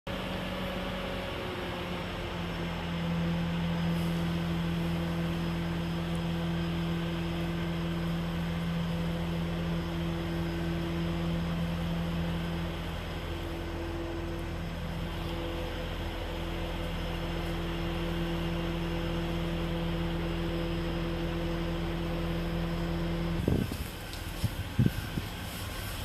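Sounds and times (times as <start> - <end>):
mechanical hum: 0.1 - 26.0.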